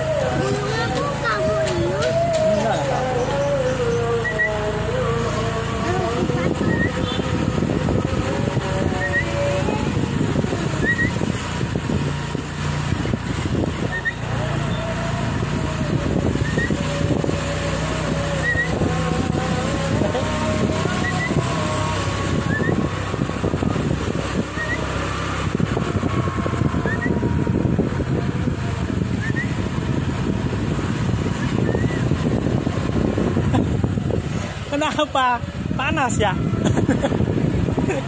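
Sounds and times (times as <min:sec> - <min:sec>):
motor scooter engine running: 0:00.0 - 0:38.0
wind rushing past microphone: 0:00.0 - 0:38.0.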